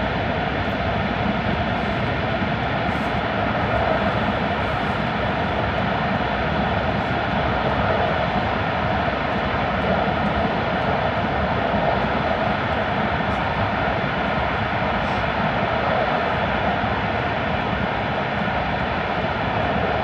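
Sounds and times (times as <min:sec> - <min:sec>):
train rumble in tunnel: 0:00.0 - 0:20.0.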